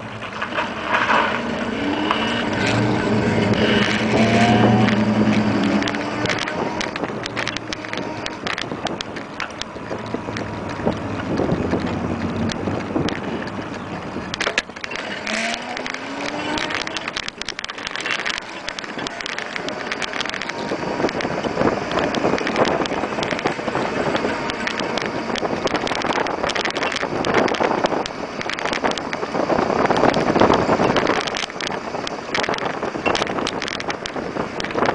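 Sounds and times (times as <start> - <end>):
tyre noise on paved street: 0.0 - 34.9
vehicle rattling: 0.0 - 34.9
wind buffeting the microphone: 0.0 - 34.9.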